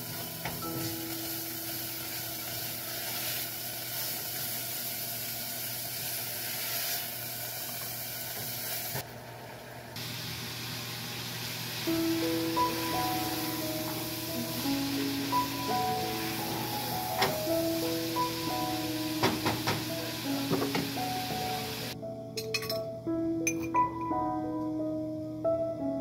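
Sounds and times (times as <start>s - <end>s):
food sizzling in a saucepan: 0.0s - 22.0s.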